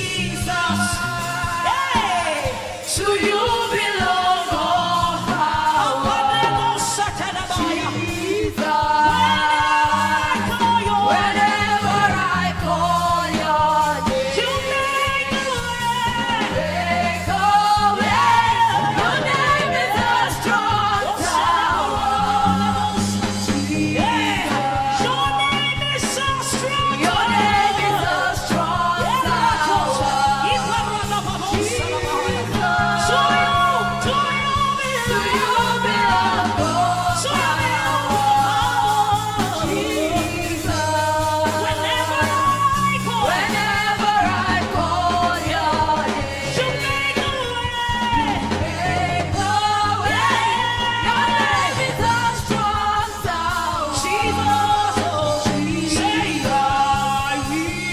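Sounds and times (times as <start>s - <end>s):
band with steady bass: 0.0s - 57.9s
woman singing worship song: 0.0s - 57.9s.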